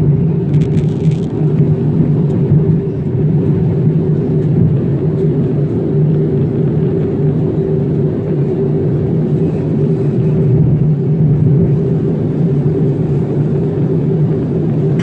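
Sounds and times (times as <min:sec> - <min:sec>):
low jet engine hum: 0:00.0 - 0:15.0.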